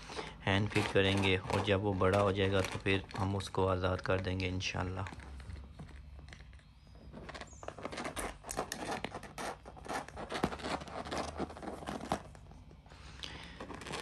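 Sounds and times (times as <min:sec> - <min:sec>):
parrot chicks scratching on floor: 0:00.0 - 0:03.5, 0:05.2 - 0:12.5, 0:13.4 - 0:14.0.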